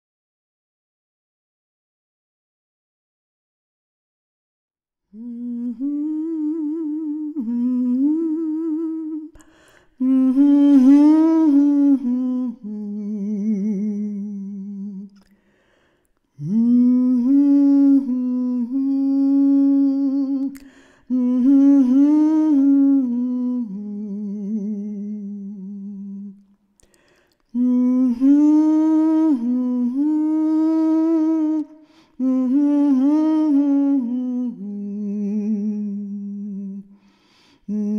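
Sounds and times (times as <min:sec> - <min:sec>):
person humming a slow melody: 0:05.1 - 0:15.3, 0:16.3 - 0:26.9, 0:27.5 - 0:37.9.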